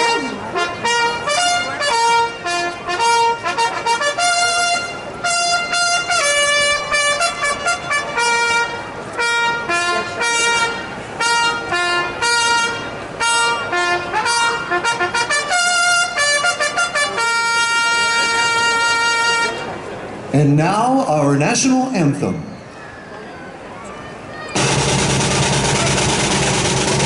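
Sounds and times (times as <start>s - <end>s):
brass band playing: 0.0s - 19.8s, 24.6s - 27.0s.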